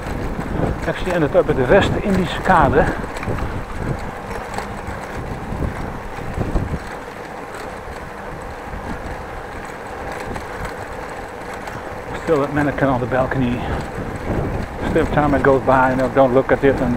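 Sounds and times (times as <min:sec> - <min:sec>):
bicycle bump: 0:00.0 - 0:16.9
bicycle tyres rolling over bricks: 0:00.0 - 0:16.9
wind buffeting microphone: 0:00.0 - 0:16.9.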